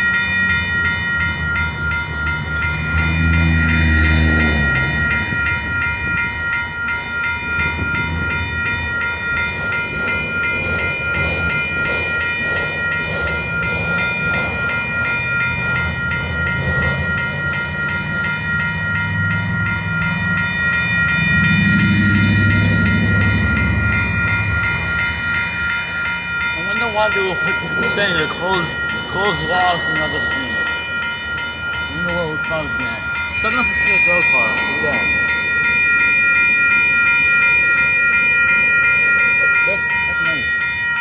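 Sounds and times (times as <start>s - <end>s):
crossing warning bell ringing: 0.0s - 41.0s
train wheels rumbling on rail: 0.0s - 41.0s.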